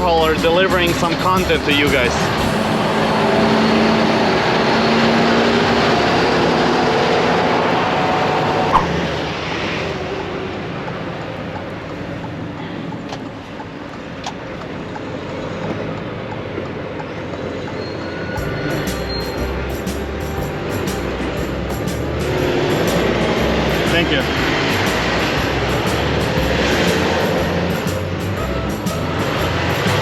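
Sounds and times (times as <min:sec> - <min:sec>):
truck engine and road noise: 0:00.0 - 0:30.0.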